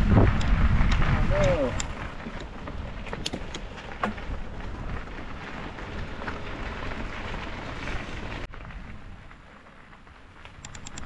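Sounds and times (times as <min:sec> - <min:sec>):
bicycle tyres on gravel: 0:00.0 - 0:11.0.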